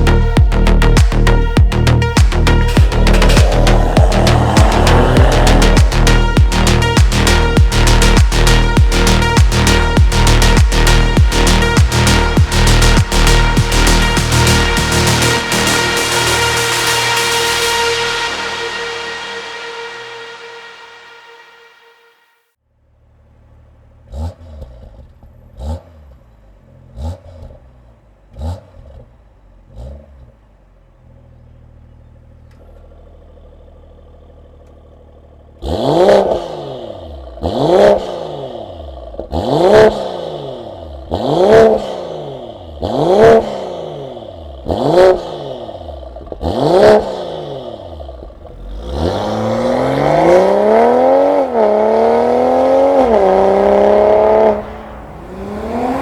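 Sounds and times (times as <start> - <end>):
car engine idling: 0.0 - 20.3, 22.7 - 37.4, 41.8 - 56.0
car accelerating: 0.0 - 22.0, 23.0 - 56.0
car engine revving: 0.0 - 22.0, 23.0 - 56.0.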